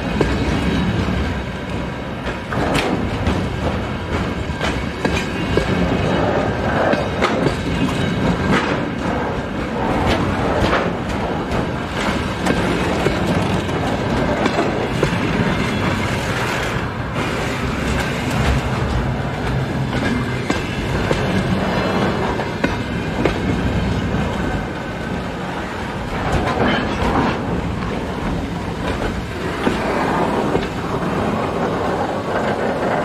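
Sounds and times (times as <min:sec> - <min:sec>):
train rumbling past: 0:00.0 - 0:33.0
wheels clattering over rail joints: 0:00.0 - 0:33.0.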